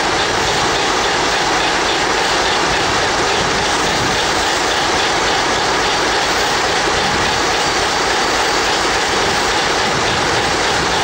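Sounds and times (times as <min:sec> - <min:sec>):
steam locomotive venting steam: 0:00.0 - 0:11.0.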